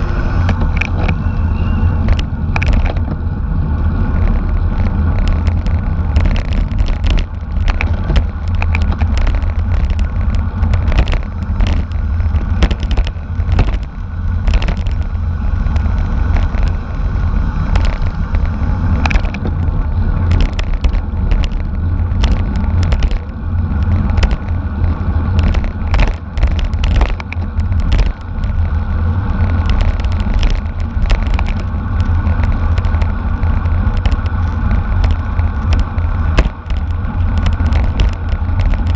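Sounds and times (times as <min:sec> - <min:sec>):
road noise: 0:00.0 - 0:38.9
wind buffeting microphone: 0:00.0 - 0:38.9
sharp clicks and knocks: 0:00.4 - 0:01.2, 0:02.0 - 0:03.2, 0:04.1 - 0:16.9, 0:17.6 - 0:38.9.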